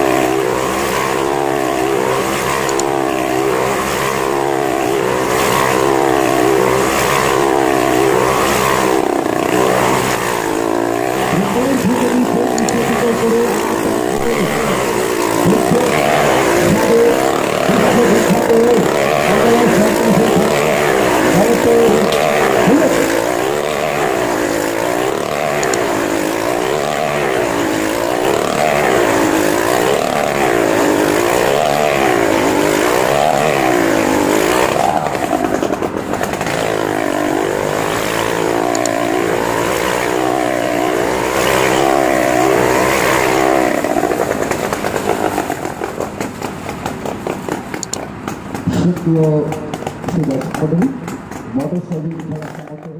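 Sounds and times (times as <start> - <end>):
motorcycle engine running hard: 0.0 - 52.9.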